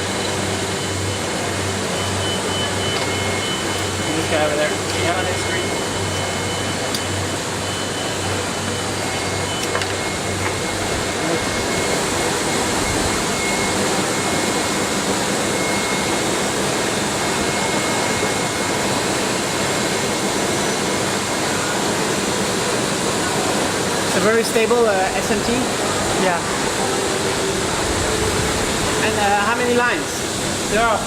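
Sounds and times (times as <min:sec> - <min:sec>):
factory machines whirring hum: 0:00.0 - 0:31.0
thin steady whine: 0:00.0 - 0:31.0.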